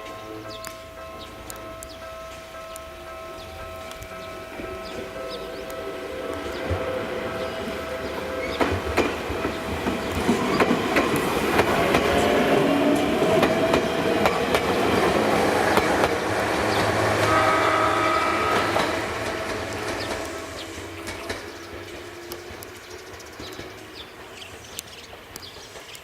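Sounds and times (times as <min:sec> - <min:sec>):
train wheels clicking over rail joints: 0:00.5 - 0:26.0
train running rumble and motor tones: 0:02.7 - 0:26.0.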